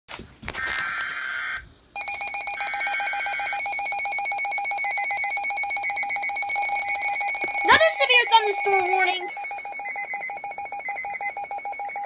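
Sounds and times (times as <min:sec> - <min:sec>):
alarm beeping rapidly: 0:02.0 - 0:12.0
warbling data tones: 0:02.0 - 0:12.0.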